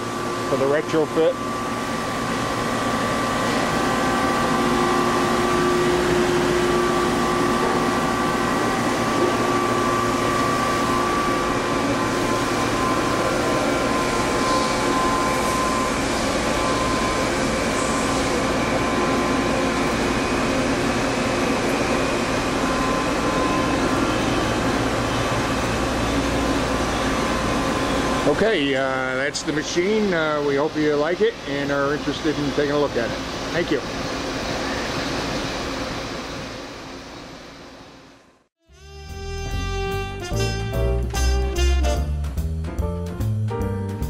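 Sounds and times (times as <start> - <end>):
machinery whining tones: 0.0 - 37.5
industrial machinery hum: 0.0 - 44.0.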